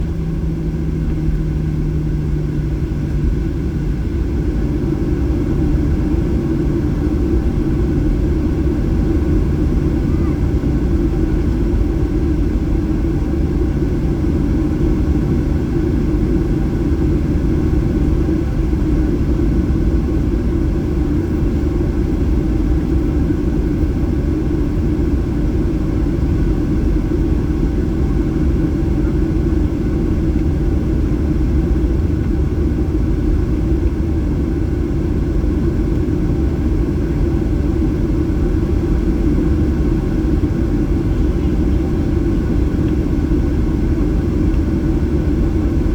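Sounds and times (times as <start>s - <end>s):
airplane cabin engine rumble: 0.0s - 45.9s
faint steady engine tones: 0.0s - 45.9s.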